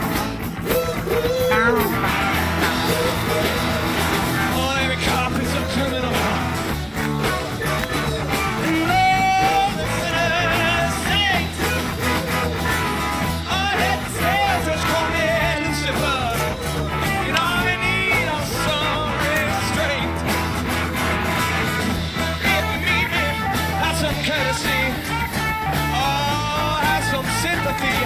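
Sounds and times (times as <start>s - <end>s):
rock band guitars: 0.0s - 28.0s
man singing: 1.0s - 20.4s, 22.2s - 28.0s.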